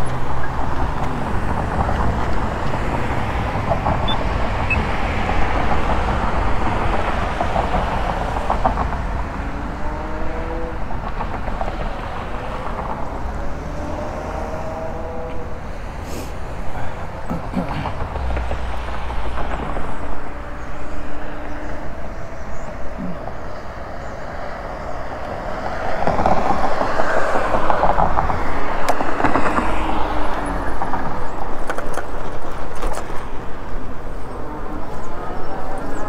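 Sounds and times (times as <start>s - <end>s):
vehicle passing by: 0.0s - 31.6s
bicycle road noise: 0.0s - 36.0s.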